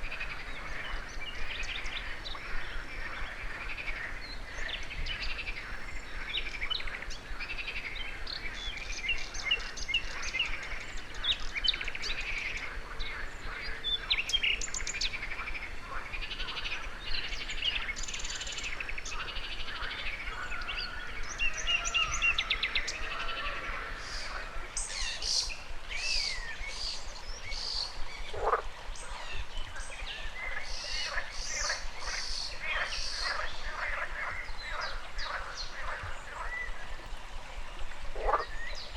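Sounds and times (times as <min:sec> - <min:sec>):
frog calls: 0:00.0 - 0:27.0, 0:28.2 - 0:36.8, 0:38.2 - 0:38.6
flowing river water: 0:00.0 - 0:38.9
songbirds chirping and trilling: 0:00.0 - 0:38.9.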